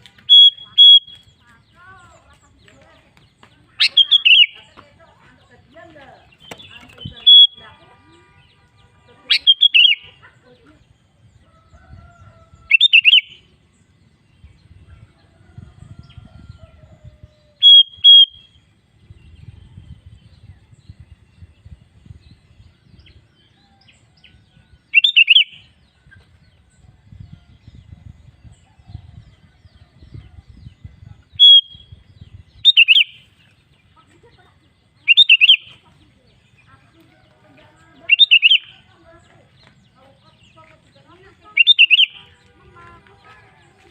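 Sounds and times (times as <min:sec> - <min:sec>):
bird chirping: 0:00.0 - 0:11.5, 0:12.5 - 0:14.9, 0:17.2 - 0:43.9.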